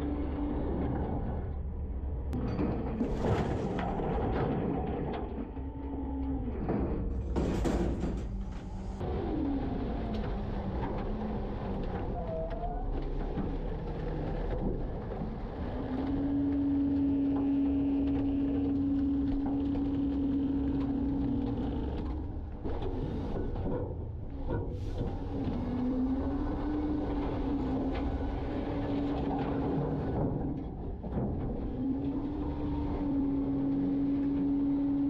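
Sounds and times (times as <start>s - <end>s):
garbage truck engine and hydraulic packer: 0.0s - 35.0s.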